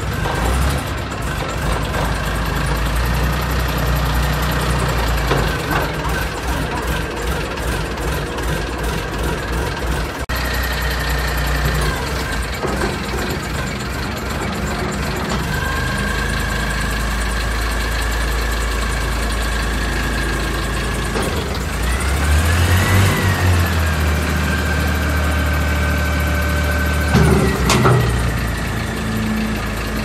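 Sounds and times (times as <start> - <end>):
diesel engine running and revving: 0.0 - 30.0.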